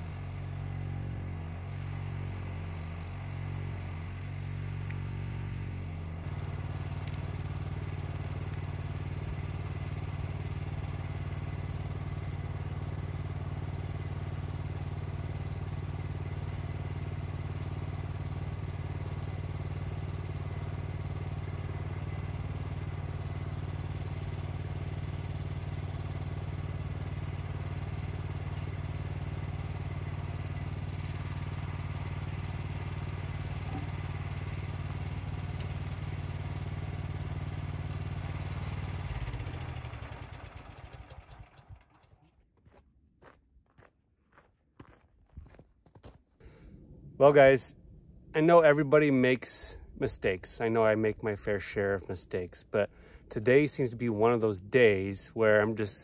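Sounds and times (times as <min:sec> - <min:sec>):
sawmill engine running: 0:00.0 - 0:42.2, 0:47.1 - 0:56.0.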